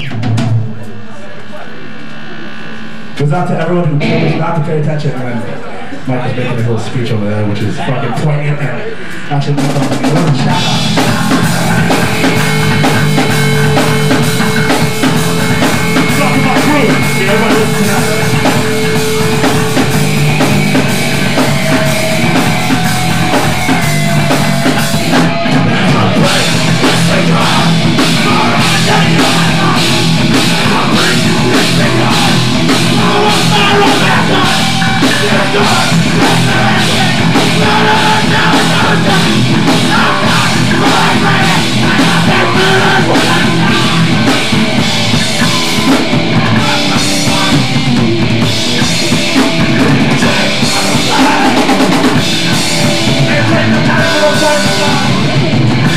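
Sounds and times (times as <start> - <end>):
punk band playing live: 0.0 - 55.9.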